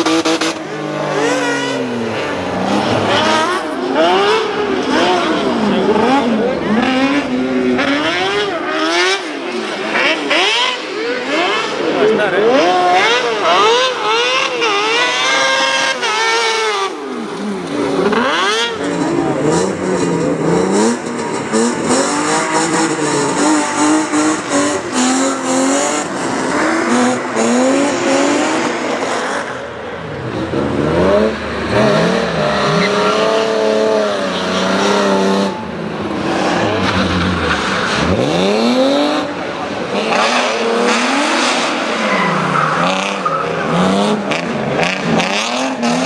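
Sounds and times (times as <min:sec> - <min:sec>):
high-pitched buggy engine revving: 0:00.0 - 0:46.0
race car engine revving: 0:00.0 - 0:46.0.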